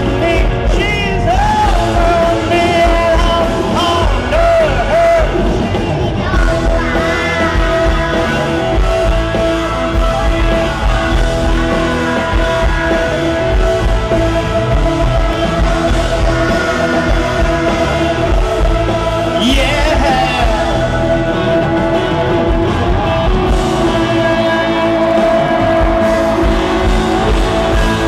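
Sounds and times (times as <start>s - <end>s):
person singing: 0.0s - 28.0s
pop-rock band playing: 0.0s - 28.0s.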